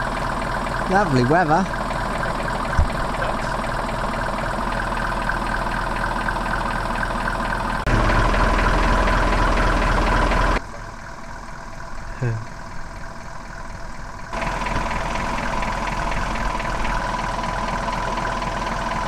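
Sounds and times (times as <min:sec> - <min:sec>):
van engine idling with knocking: 0:00.0 - 0:19.0.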